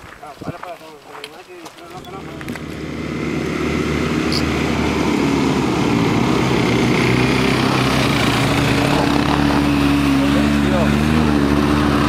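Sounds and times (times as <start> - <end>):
quad bike engines droning: 1.9 - 12.0.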